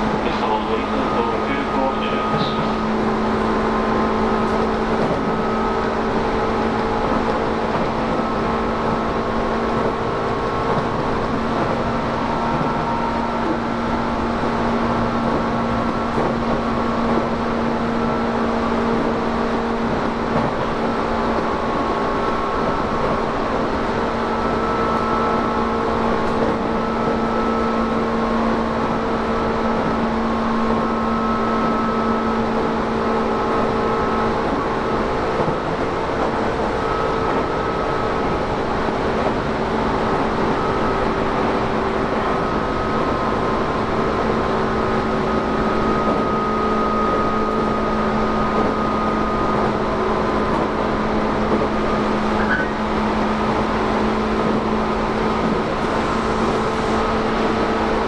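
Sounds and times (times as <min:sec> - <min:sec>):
humming tones from running gear: 0:00.0 - 0:58.0
train wheels rumbling on rails: 0:00.0 - 0:58.0.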